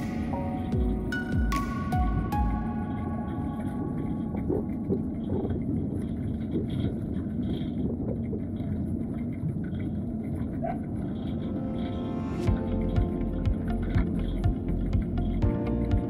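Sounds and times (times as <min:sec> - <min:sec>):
wind buffeting microphone: 0:00.0 - 0:15.2
bicycle road noise: 0:00.0 - 0:16.0.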